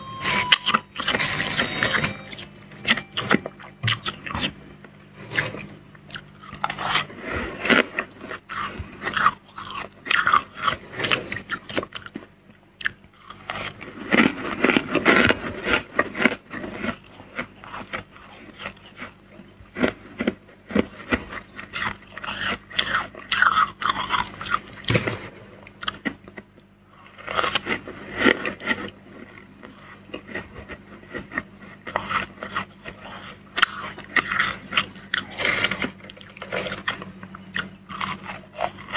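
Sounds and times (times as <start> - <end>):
frost crunching: 0.0 - 38.9.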